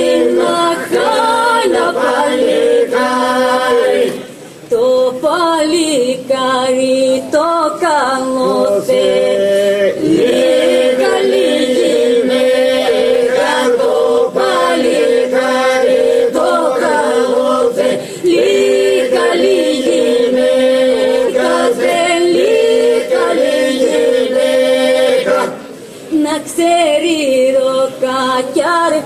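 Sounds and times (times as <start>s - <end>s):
group singing unaccompanied: 0.0s - 29.0s.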